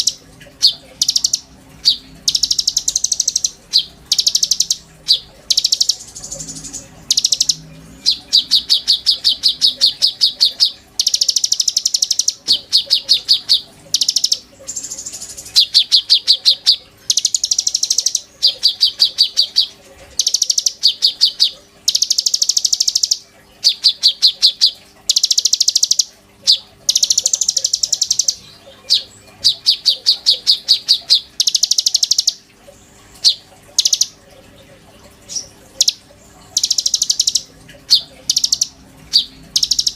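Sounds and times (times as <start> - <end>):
songbird singing buzzy trills: 0.0 - 39.9.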